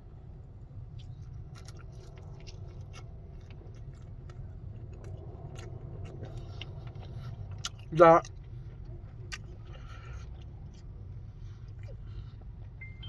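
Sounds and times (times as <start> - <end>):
steady low hum: 0.0 - 13.0
crisp chewing crunches: 0.8 - 12.4.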